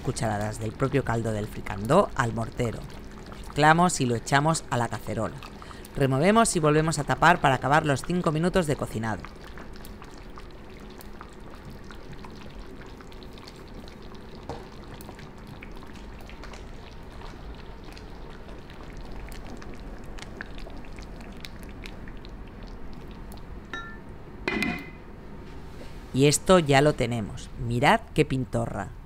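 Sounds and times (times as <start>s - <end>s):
stew bubbling in a pan: 0.0s - 24.1s.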